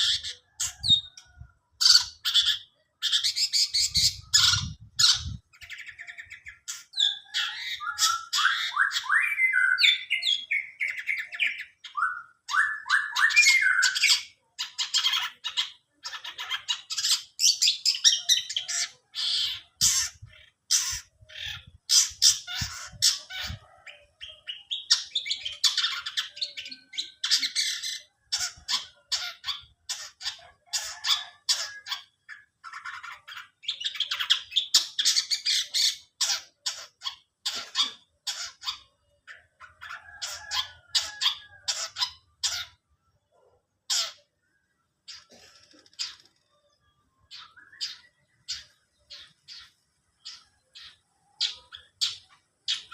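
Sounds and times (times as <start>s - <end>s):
songbird singing varied song: 0.0s - 43.4s, 44.0s - 52.9s.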